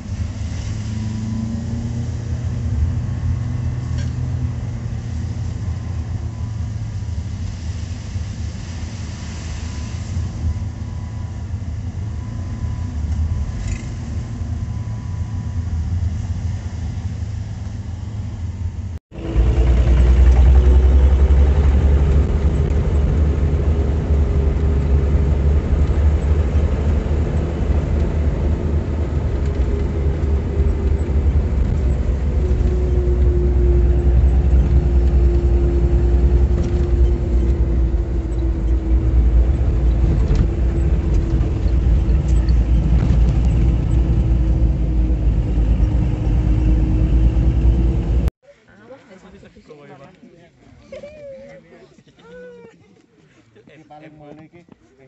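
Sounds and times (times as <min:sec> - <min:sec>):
engine and road rumble in a car: 0:00.0 - 0:48.4.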